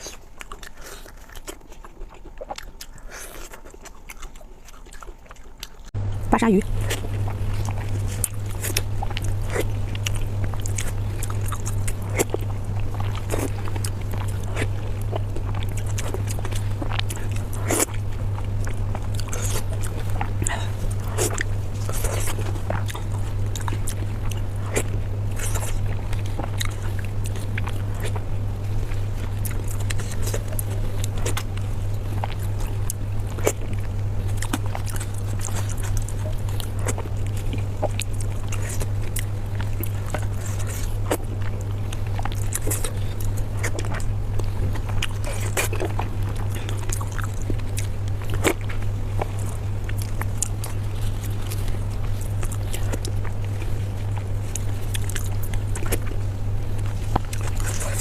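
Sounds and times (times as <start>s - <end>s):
low hum: 0.0s - 58.0s
person chewing food: 0.0s - 58.0s.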